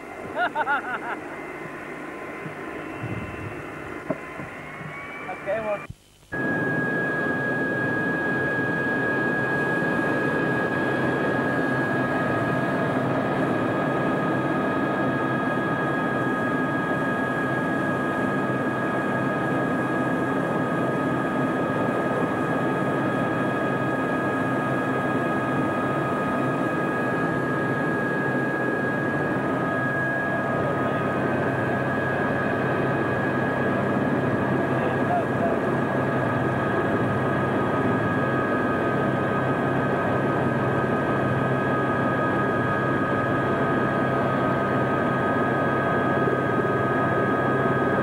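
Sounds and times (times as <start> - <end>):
helicopter engine and rotor: 0.0 - 48.0.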